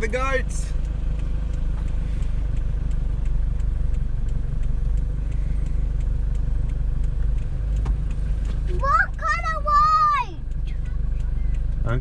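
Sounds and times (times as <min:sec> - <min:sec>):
faint regular ticks: 0:00.0 - 0:09.6, 0:10.4 - 0:12.0
vehicle engine running: 0:00.0 - 0:12.0.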